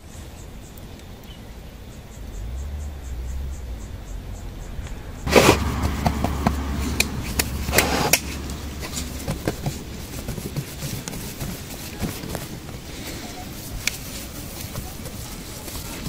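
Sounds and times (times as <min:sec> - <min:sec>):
rustle: 0:00.0 - 0:16.0.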